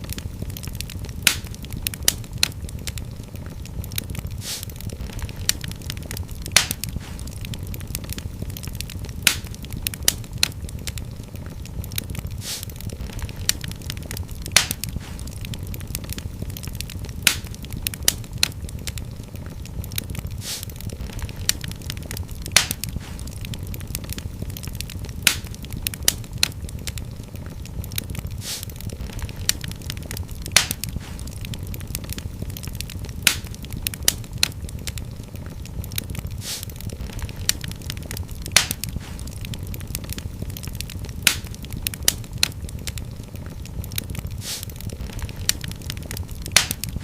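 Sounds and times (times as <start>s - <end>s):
fireplace fire crackling: 0.0s - 47.0s
low rumble of flames: 0.0s - 47.0s.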